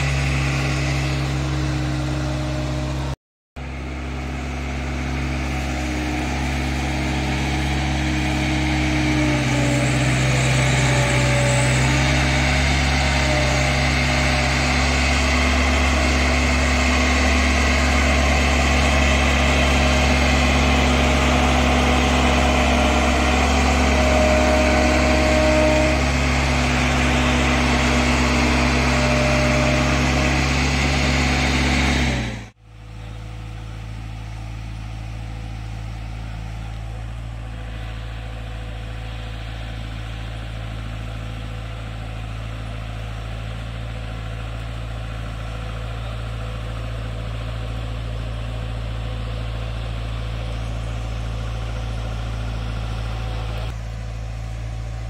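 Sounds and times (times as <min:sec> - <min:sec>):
combine harvester diesel engine running: 0:00.0 - 0:55.0.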